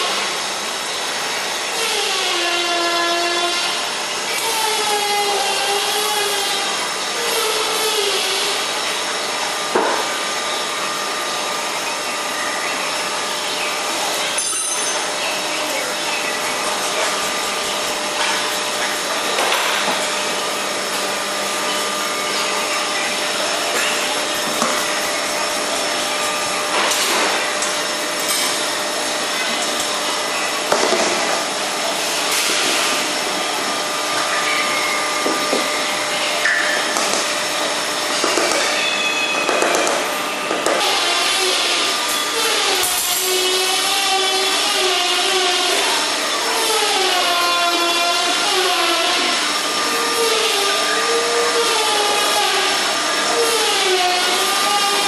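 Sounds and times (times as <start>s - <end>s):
machine whirring: 0.0s - 55.0s.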